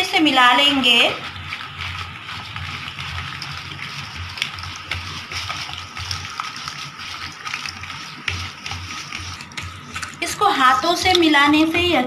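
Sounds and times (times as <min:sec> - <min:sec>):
wet squishing of kneaded meat: 0:00.1 - 0:12.0.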